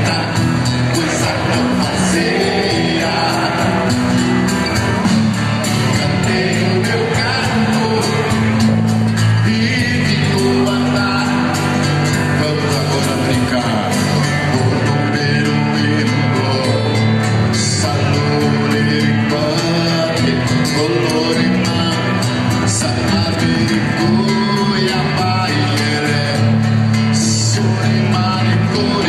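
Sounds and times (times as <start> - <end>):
live band playing: 0.0 - 29.0
man singing: 0.0 - 29.0.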